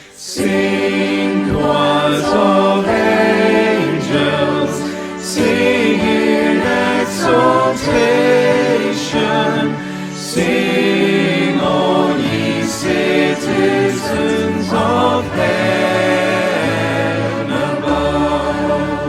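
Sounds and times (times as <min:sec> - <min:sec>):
choir singing a carol: 0:00.0 - 0:19.0.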